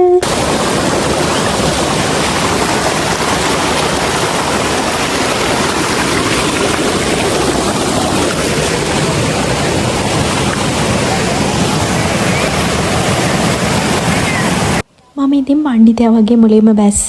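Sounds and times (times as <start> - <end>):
water pouring over waterfall: 0.2 - 14.8.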